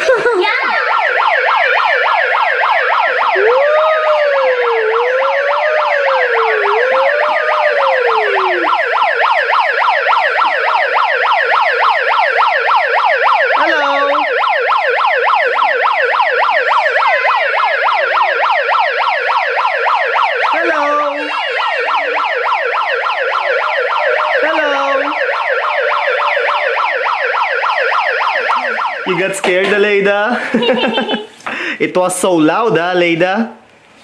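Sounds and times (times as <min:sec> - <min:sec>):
toy siren yelping: 0:00.4 - 0:29.1.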